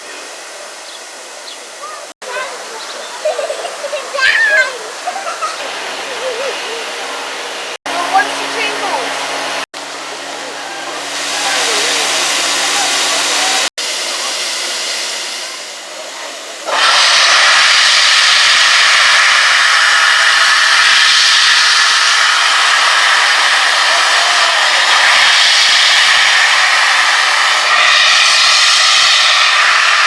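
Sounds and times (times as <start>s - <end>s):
steam locomotive blowing off steam: 0.0s - 30.0s.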